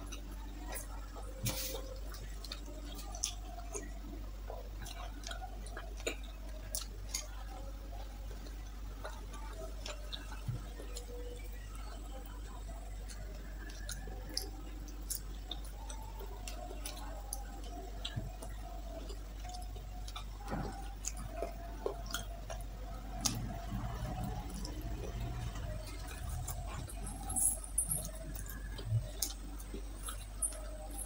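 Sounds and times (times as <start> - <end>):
chewing: 0.0 - 31.0
low hum: 0.0 - 31.0.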